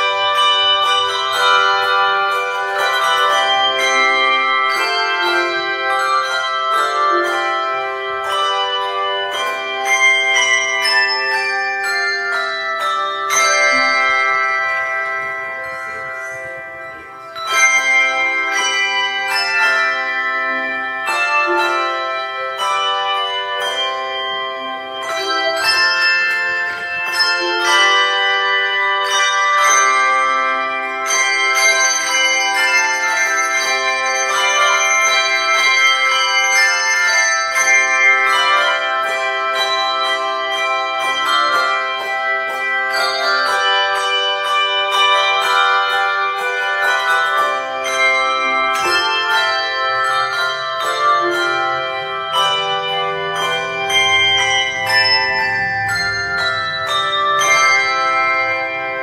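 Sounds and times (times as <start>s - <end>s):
handbell choir playing chords: 0.0s - 59.0s.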